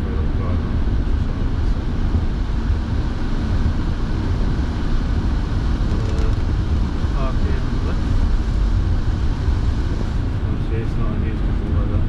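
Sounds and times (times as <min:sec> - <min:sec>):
heater fan blowing: 0:00.0 - 0:12.0
road and engine rumble: 0:00.0 - 0:12.0.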